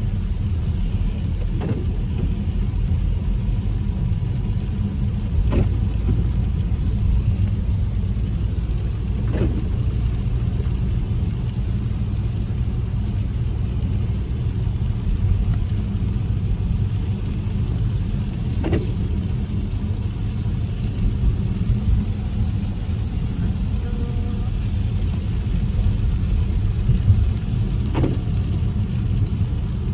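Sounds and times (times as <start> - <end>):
car road noise rumble: 0.0 - 29.9.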